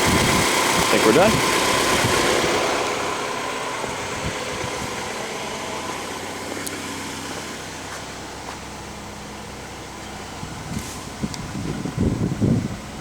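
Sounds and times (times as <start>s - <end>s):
car engine idling: 0.0s - 13.0s
fan whirring: 0.0s - 13.0s.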